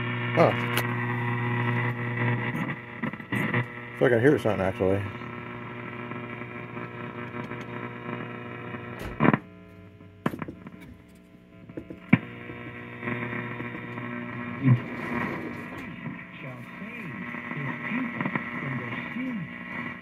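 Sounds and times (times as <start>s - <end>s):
radio crackles and pops: 0.0s - 20.0s
tube radio humming: 0.0s - 20.0s.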